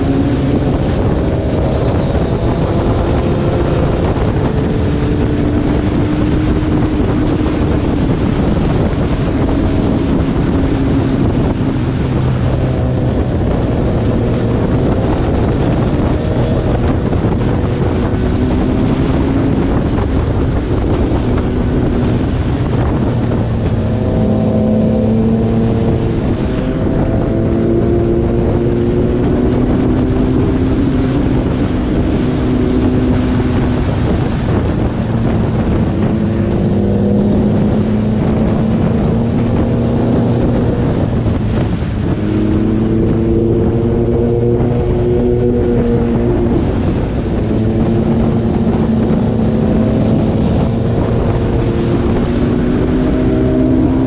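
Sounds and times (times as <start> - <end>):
motorcycle engine running: 0.0 - 54.0
wind rush on microphone: 0.0 - 54.0.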